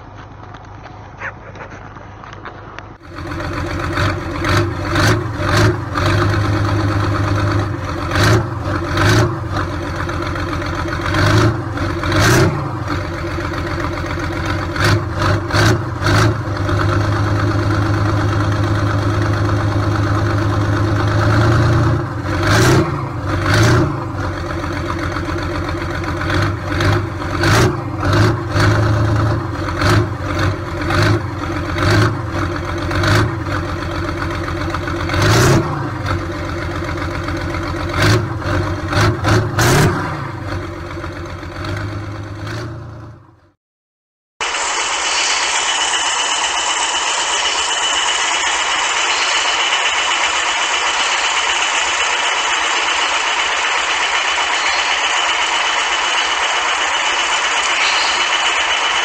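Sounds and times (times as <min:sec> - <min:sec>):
tractor diesel engine revving: 0:02.6 - 0:43.6, 0:44.4 - 0:59.0.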